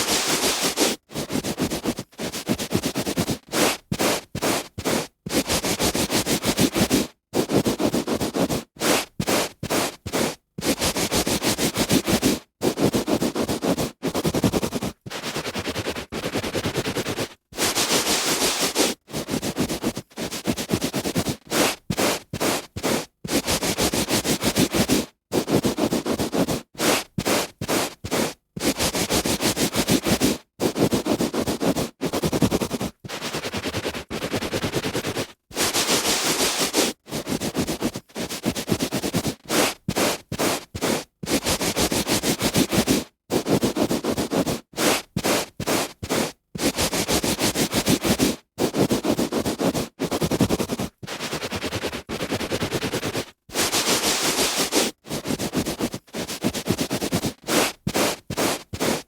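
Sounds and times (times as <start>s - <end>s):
hand rubbing on carpet: 0.0s - 59.0s.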